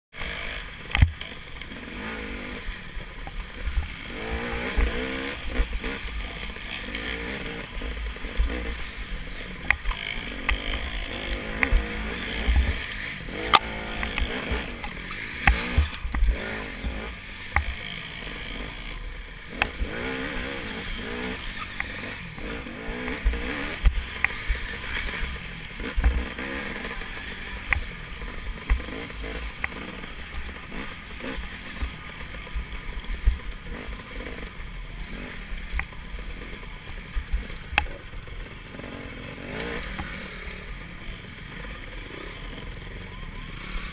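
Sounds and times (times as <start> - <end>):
dirt bike engine revving: 0.2 - 43.9.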